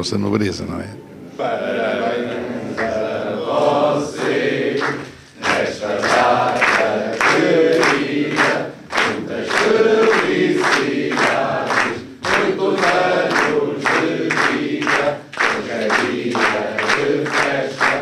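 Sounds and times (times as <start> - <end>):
group singing in chorus: 1.3 - 18.0.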